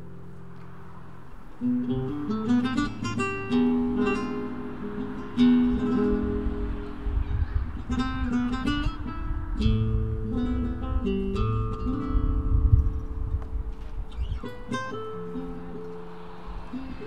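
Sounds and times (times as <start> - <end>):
flamenco acoustic guitar: 0.0 - 17.0.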